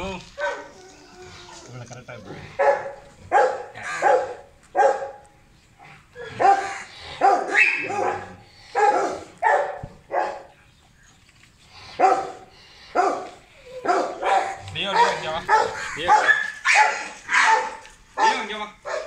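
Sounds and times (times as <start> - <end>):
dogs barking: 0.3 - 0.9, 2.2 - 10.5, 11.9 - 19.0.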